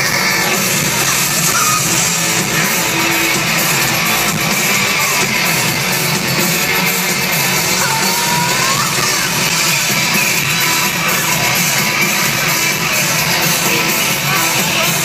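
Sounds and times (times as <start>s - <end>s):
electric guitars: 0.0s - 15.0s
live rock band: 0.0s - 15.0s.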